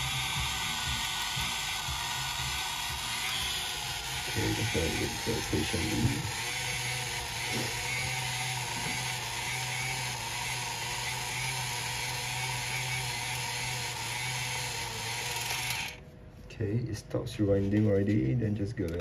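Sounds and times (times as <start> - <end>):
camera film motor rewinding: 0.0 - 16.0.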